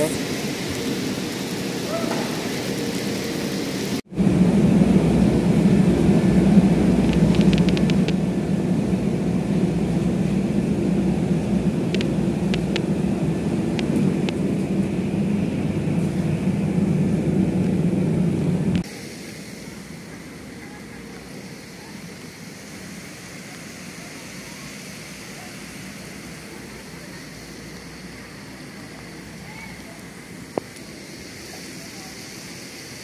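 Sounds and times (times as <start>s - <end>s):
conveyors and rollers rumbling: 0.0s - 33.0s
heavy rain pouring: 0.0s - 33.0s.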